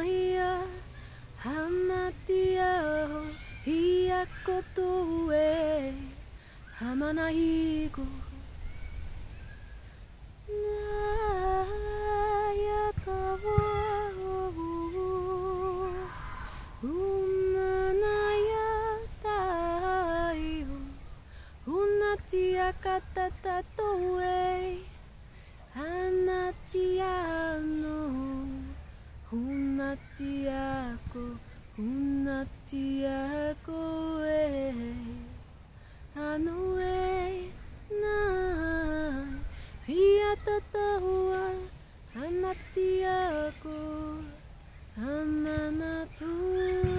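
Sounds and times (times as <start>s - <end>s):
woman singing wordless vocals: 0.0s - 8.6s, 10.3s - 46.9s.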